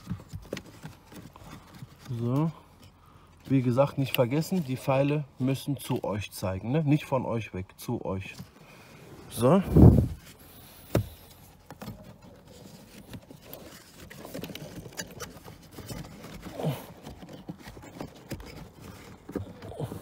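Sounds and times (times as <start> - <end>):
filter rustling and scraping: 0.0 - 20.0.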